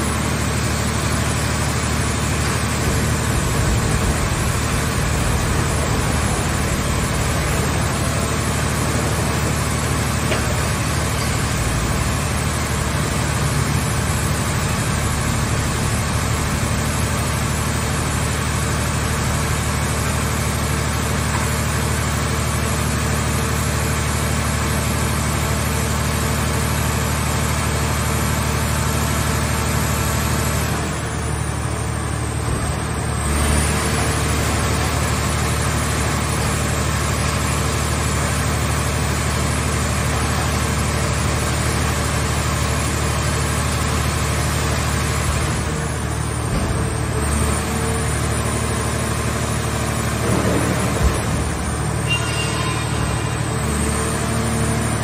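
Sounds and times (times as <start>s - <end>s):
hydraulic power unit humming: 0.0s - 23.3s, 30.9s - 55.0s.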